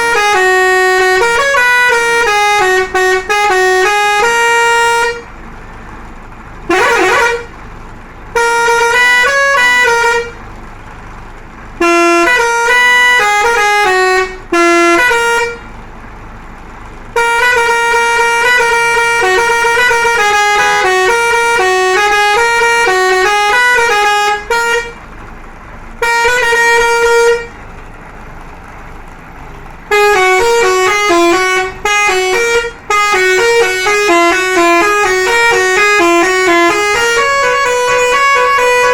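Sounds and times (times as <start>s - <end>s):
bus musical horn playing a tune: 0.0s - 27.8s, 28.4s - 38.9s.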